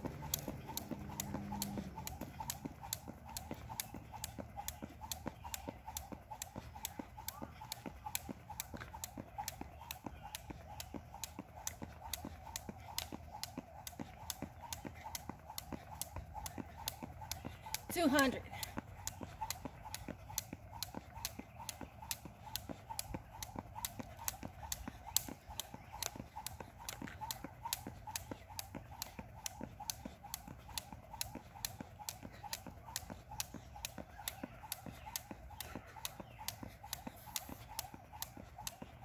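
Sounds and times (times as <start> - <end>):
jump rope slapping asphalt: 0.0 - 39.0.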